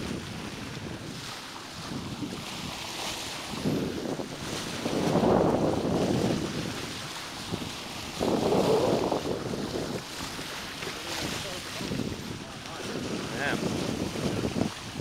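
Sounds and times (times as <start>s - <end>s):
water rushing at boat bow: 0.0s - 15.0s
wind buffeting microphone: 0.0s - 15.0s.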